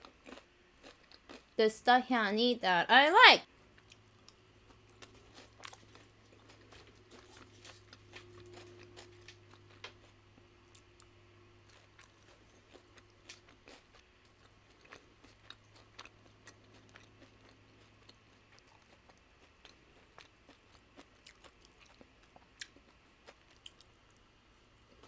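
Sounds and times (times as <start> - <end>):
chips chewing and crunching: 0.0 - 1.6, 3.6 - 25.0
low steady hum: 0.0 - 25.0.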